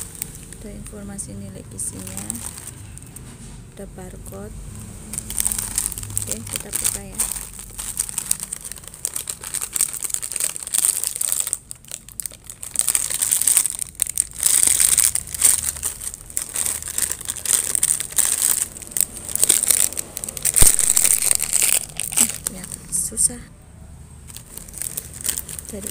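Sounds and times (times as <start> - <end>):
plastic bag crinkling: 0.0 - 3.4, 4.8 - 23.4, 24.2 - 25.9.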